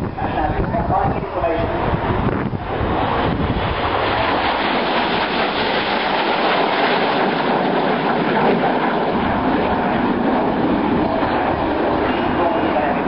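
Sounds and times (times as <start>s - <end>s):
jet aircraft engine rushing: 0.0s - 13.0s.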